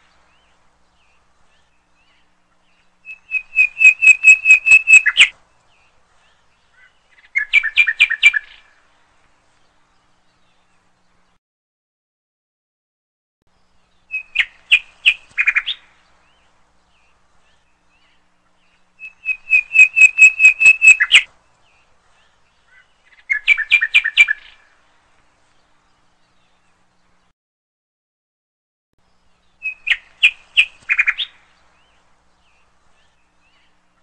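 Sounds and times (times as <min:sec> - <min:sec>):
songbird chirping: 0:00.0 - 0:11.4, 0:13.5 - 0:27.3, 0:29.0 - 0:34.0.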